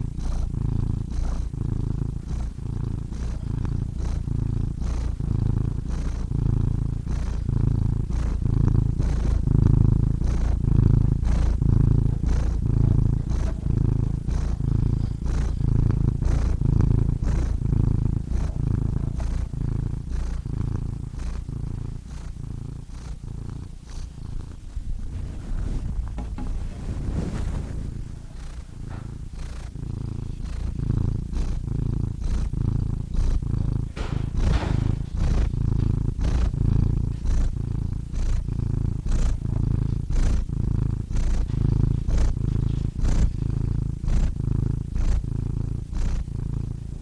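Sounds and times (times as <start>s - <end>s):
cat purring: 0.0s - 47.0s.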